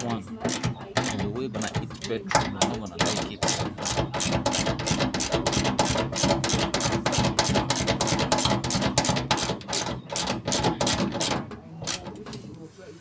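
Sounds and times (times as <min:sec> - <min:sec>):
ratchet wrench clicking: 0:00.0 - 0:12.4.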